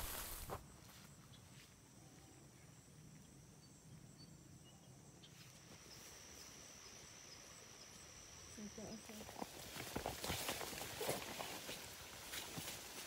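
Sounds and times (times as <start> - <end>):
faint insect trill: 0.5 - 13.0.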